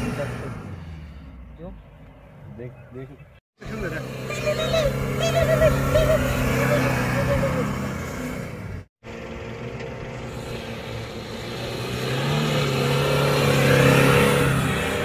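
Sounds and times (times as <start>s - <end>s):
engine revving hard: 0.0s - 1.4s, 3.6s - 9.6s, 10.2s - 15.0s.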